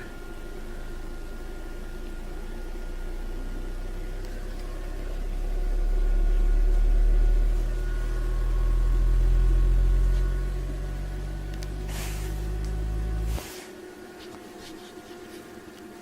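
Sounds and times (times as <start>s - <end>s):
deep bass test tone: 0.0s - 13.4s.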